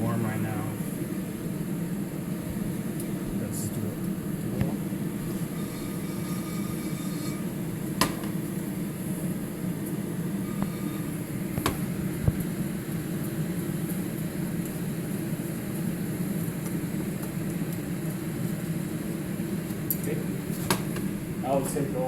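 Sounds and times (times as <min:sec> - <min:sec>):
exhaust fan humming: 0:00.0 - 0:22.0.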